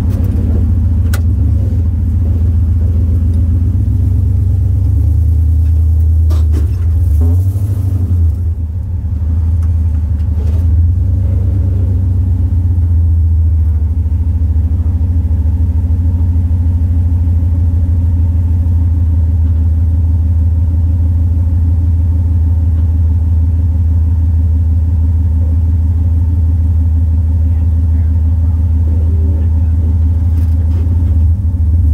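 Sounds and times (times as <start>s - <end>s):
vehicle engine low rumble: 0.0s - 31.9s.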